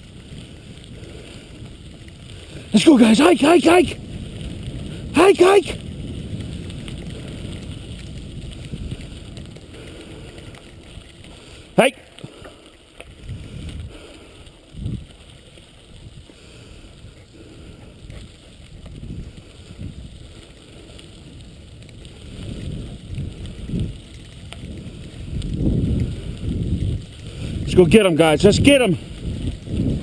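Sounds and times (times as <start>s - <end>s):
wheels rolling over gravel: 0.0s - 30.0s
wind buffeting microphone: 0.0s - 30.0s.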